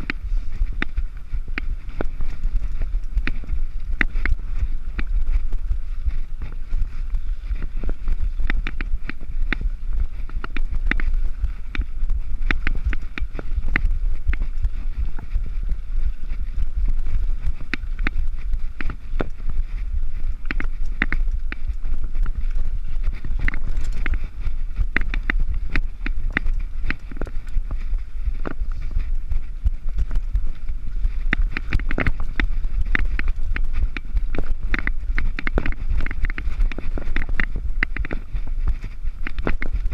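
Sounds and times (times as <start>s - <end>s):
bike rattling over bumps: 0.0s - 39.9s
bike rolling over gravel: 0.0s - 39.9s
low wind rumble on microphone: 0.0s - 39.9s.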